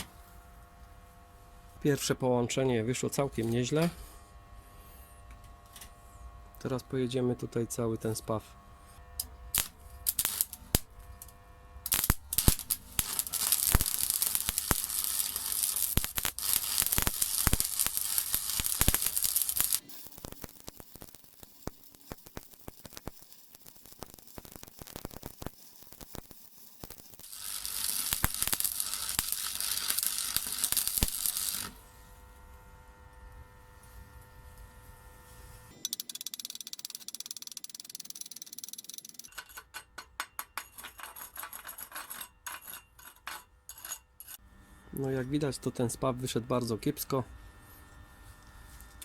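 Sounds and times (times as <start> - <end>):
welder transformer humming: 0.0 - 36.1, 44.2 - 49.0
welding arc crackling and sizzling: 6.6 - 39.9, 40.6 - 49.0.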